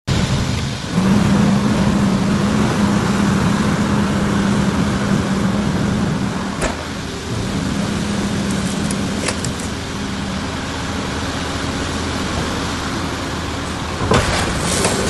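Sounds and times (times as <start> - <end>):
excavator diesel engine running: 0.1 - 15.0.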